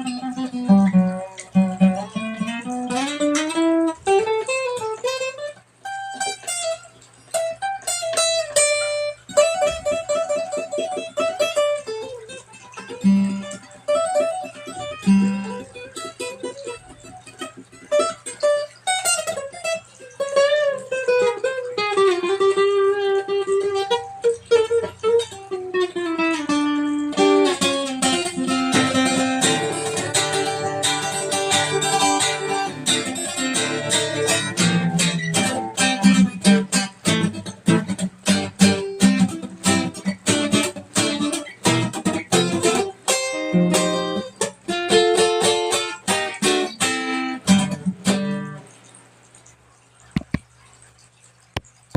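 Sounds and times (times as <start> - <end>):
plucked string instrument melody: 0.0 - 48.8.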